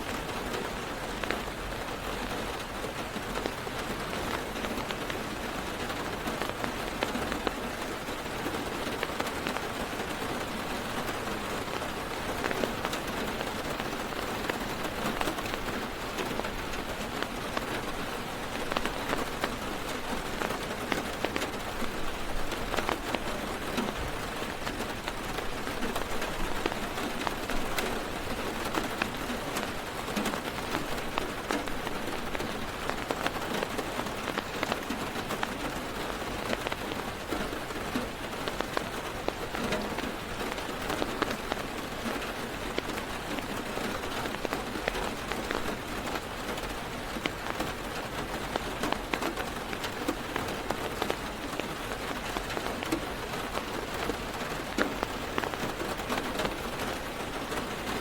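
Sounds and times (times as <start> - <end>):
heavy rain on car roof: 0.0 - 58.0.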